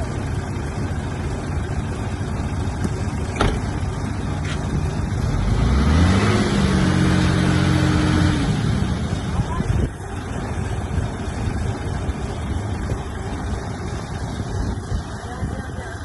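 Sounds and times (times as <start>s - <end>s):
diesel engine revving under load: 0.0s - 15.2s.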